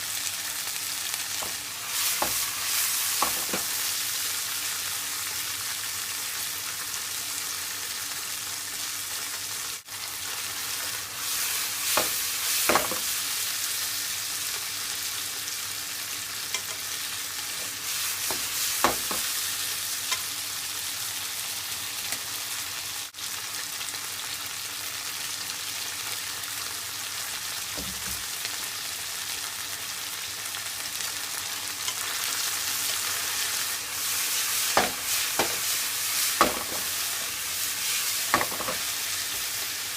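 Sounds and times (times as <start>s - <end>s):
food sizzling in frying pan: 0.0s - 39.9s.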